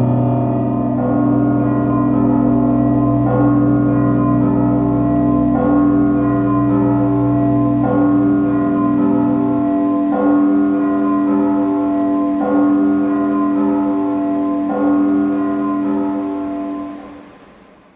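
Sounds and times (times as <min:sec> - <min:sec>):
sustained keyboard chords: 0:00.0 - 0:17.4.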